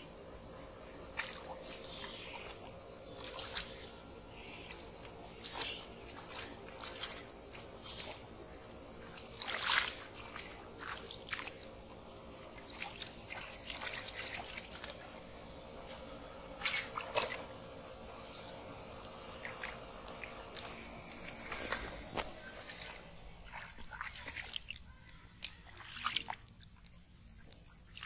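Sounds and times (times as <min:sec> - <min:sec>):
splashing in shallow water: 0:01.0 - 0:15.3, 0:16.6 - 0:17.6, 0:19.2 - 0:28.0.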